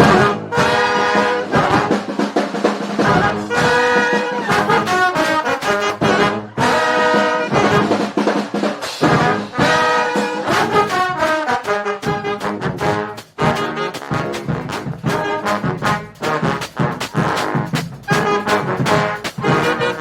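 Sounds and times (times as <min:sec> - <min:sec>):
street brass band playing: 0:00.0 - 0:20.0.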